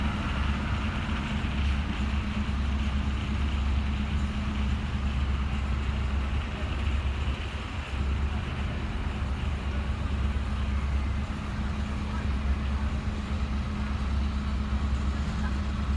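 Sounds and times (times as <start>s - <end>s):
traffic engine rumble: 0.0s - 15.9s.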